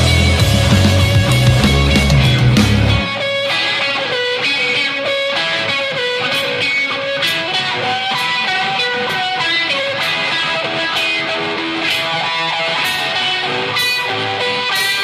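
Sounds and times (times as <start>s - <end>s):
guitar picking melody: 0.0s - 15.0s.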